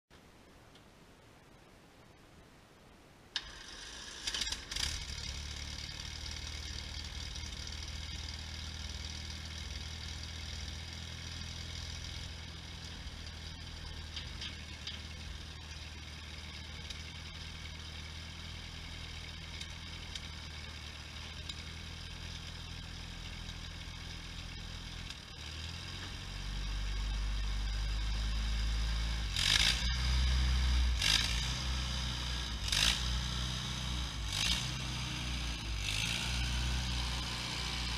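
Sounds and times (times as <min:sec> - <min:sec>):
tractor engine idling: 0:03.4 - 0:37.9.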